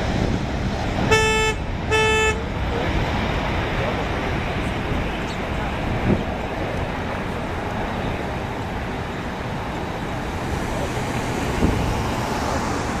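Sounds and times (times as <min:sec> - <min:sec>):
jet engines rumbling: 0:00.0 - 0:13.0
wind buffet on microphone: 0:00.0 - 0:13.0.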